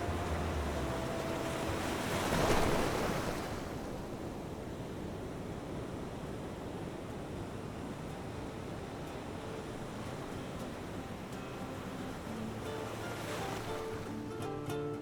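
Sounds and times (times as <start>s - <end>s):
ocean waves washing: 0.0s - 14.7s.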